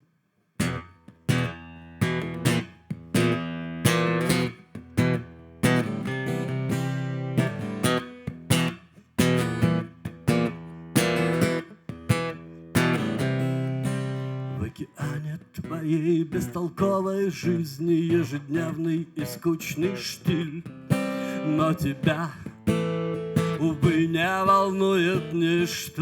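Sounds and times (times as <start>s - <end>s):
acoustic guitar chords: 0.6s - 26.0s.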